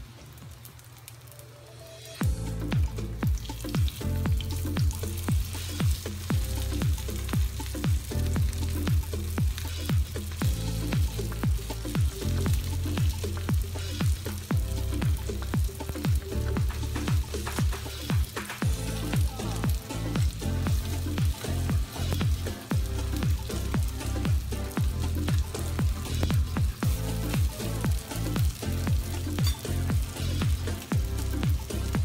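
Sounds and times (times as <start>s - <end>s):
spring rolls frying in oil: 0.0s - 32.0s
electronic music with kick-drum beat: 2.1s - 32.0s.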